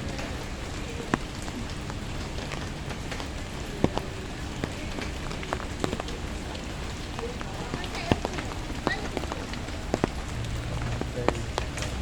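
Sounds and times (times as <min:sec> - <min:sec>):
rain patter: 0:00.0 - 0:12.0
sharp raindrops tapping: 0:00.0 - 0:12.0.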